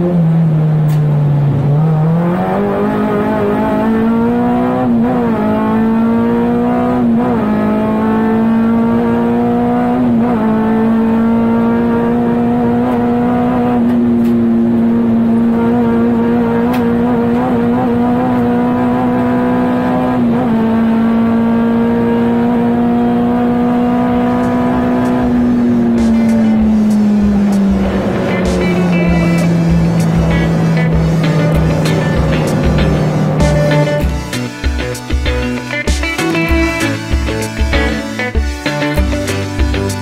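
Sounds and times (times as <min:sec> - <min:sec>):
car engine revving from inside cabin: 0:00.0 - 0:34.3.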